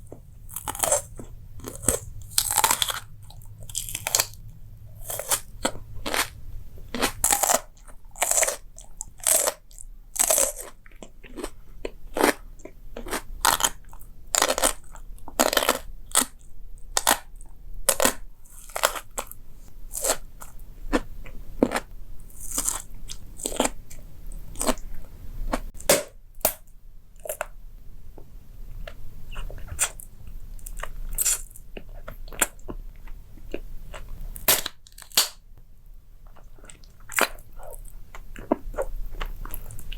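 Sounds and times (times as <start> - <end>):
crunchy eating: 0.0 - 25.9, 28.8 - 35.2, 36.2 - 39.9.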